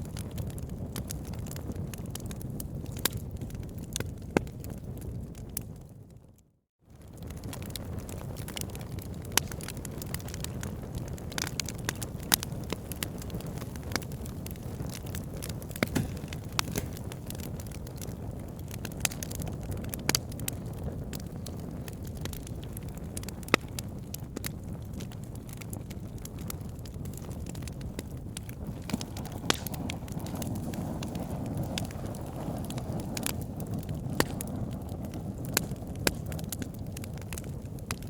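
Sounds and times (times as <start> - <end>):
logs crackling and popping: 0.0 - 6.2, 6.9 - 38.0
fire rumbling: 0.0 - 38.0.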